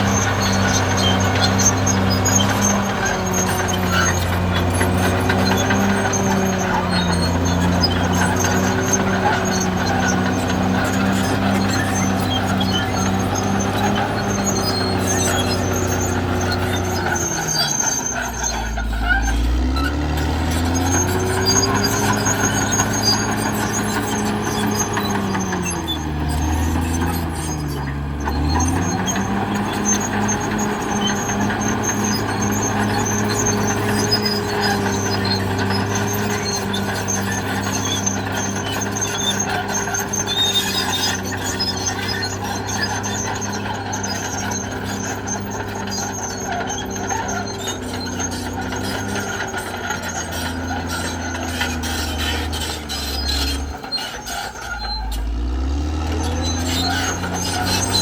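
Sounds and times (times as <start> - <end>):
bulldozer diesel engine: 0.0 - 58.0
steel tracks squealing: 0.0 - 58.0.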